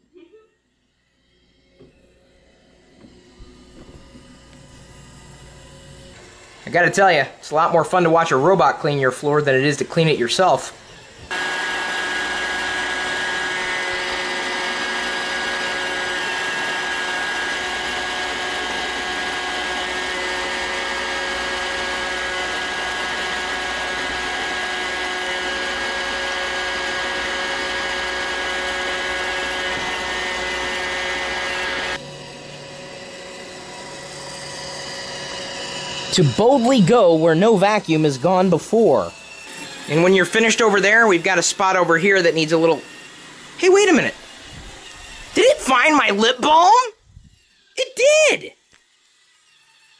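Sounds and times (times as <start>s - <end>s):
high whining tones: 0.0s - 49.9s
robot vacuum whirring on carpet: 0.6s - 49.9s.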